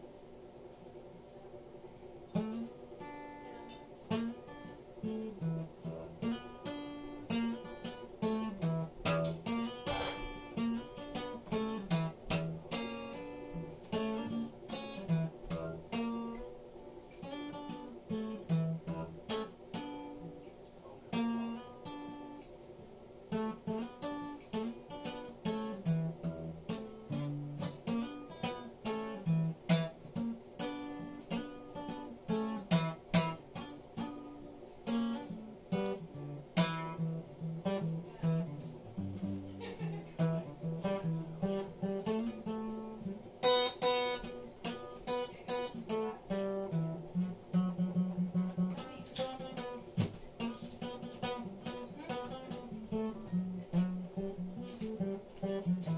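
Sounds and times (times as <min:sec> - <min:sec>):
acoustic guitar tune: 0:01.0 - 0:55.9.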